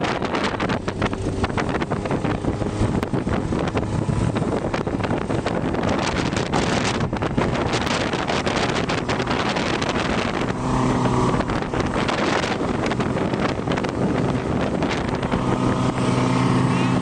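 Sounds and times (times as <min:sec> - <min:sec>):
motorboat engine running: 0:00.0 - 0:17.0
wind buffeting microphone: 0:00.0 - 0:17.0.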